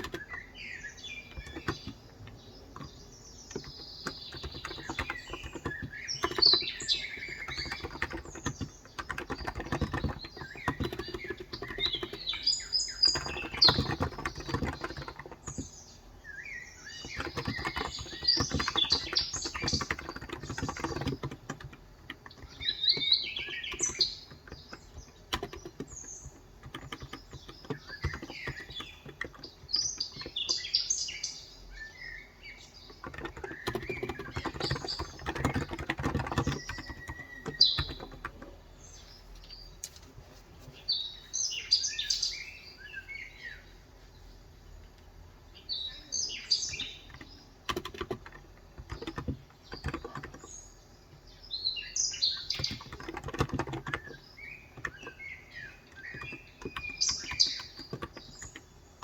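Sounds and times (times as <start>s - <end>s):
keyboard typing: 0.0s - 15.9s, 16.8s - 31.2s, 32.5s - 39.0s, 46.3s - 51.2s, 52.2s - 59.0s
small birds chirping: 0.0s - 59.0s.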